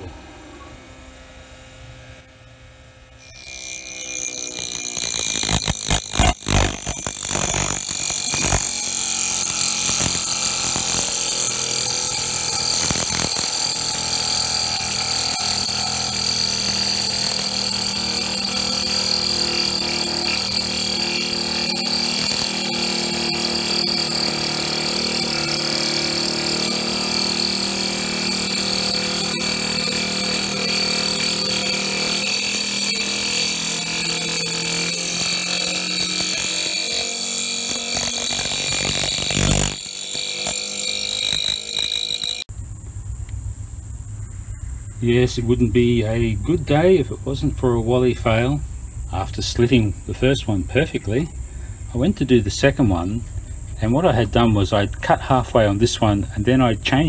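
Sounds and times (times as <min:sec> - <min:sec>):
saw cutting metal whine: 0:00.0 - 0:42.5, 0:53.8 - 0:57.0.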